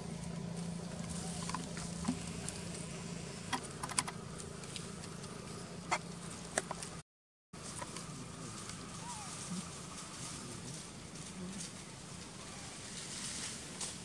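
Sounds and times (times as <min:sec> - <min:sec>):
steady low hum: 0:00.0 - 0:07.0, 0:07.6 - 0:14.0.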